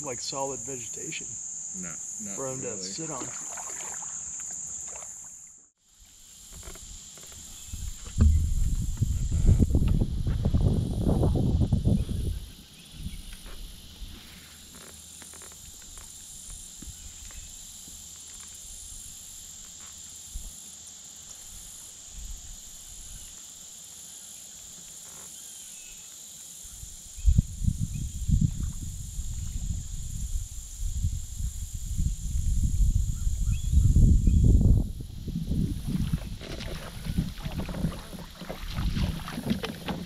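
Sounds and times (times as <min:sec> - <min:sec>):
insects buzzing: 0:00.0 - 0:40.0.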